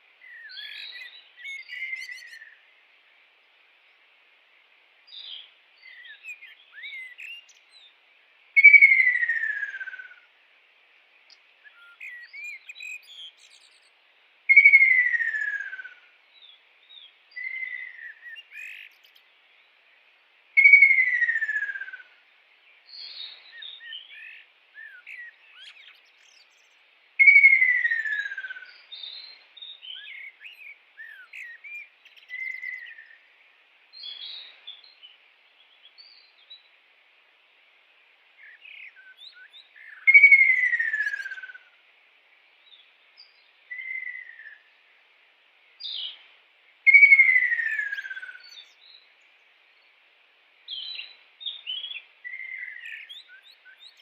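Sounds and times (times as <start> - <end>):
soft bird chirps: 0.0 - 36.8, 37.4 - 45.0, 45.6 - 50.1, 50.7 - 54.0.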